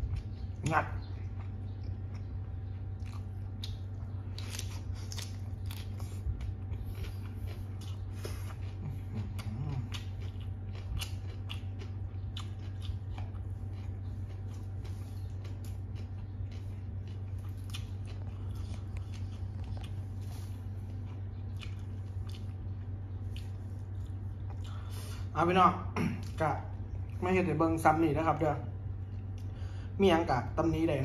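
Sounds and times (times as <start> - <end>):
person chewing crunchy food: 0.0 - 25.3
low steady hum: 0.0 - 31.0.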